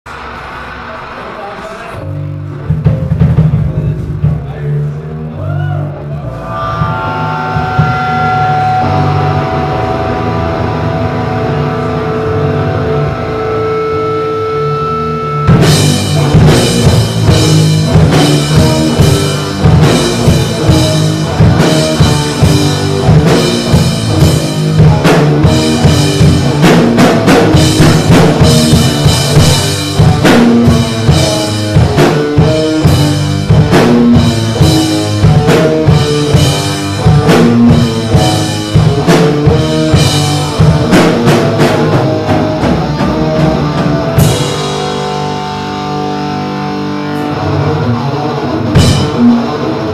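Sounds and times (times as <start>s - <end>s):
punk rock band playing: 0.1s - 49.9s
drums fast steady beat: 0.7s - 5.0s, 6.6s - 14.1s, 14.9s - 49.9s
electric guitar chord ringing: 6.2s - 49.9s.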